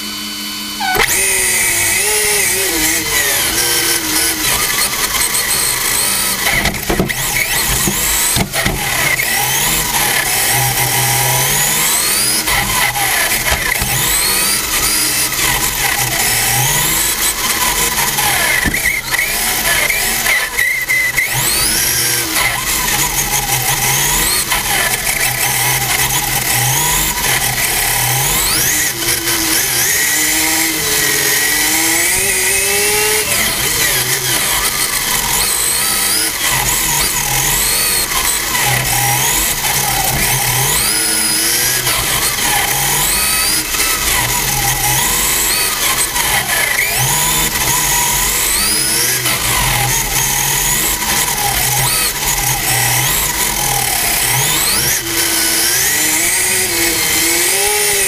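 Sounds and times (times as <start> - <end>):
rc car motor revving: 0.0 - 58.0.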